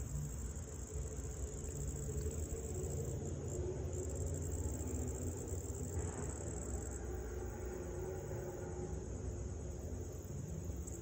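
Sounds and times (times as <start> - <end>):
high-pitched insect chorus: 0.0 - 8.9.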